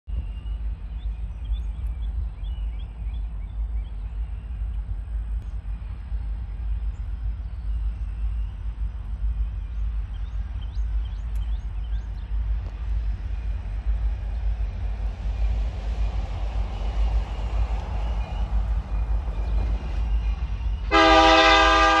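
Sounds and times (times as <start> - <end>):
small birds chirping: 0.1 - 20.9
distant diesel locomotive rumble: 0.1 - 22.0.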